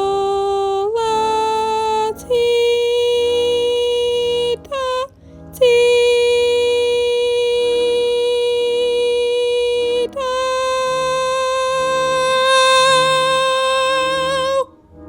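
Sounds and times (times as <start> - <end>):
soprano holding high note: 0.0 - 14.7
soft musical accompaniment: 0.0 - 15.0.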